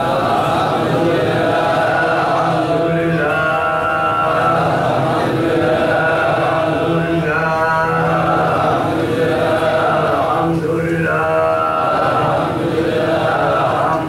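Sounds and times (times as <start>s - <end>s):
person chanting religious recitation: 0.0s - 14.0s.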